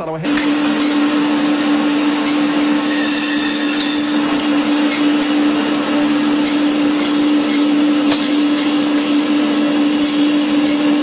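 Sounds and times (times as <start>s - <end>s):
band saw cutting meat: 0.3s - 11.0s.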